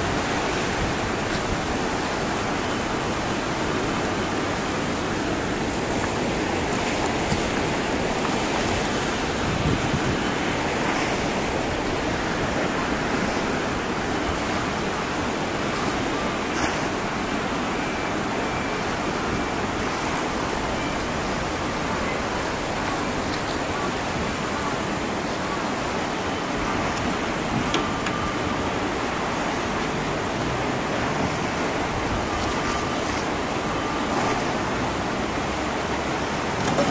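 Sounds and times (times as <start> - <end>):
turbulent water rushing: 0.0 - 36.9.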